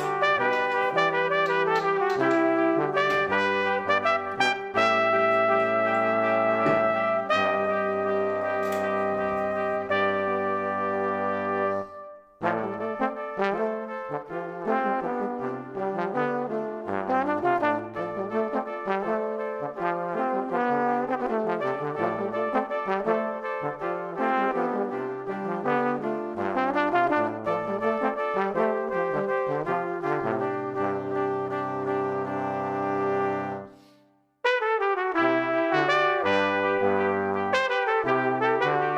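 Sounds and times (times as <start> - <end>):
brass music: 0.0 - 38.9.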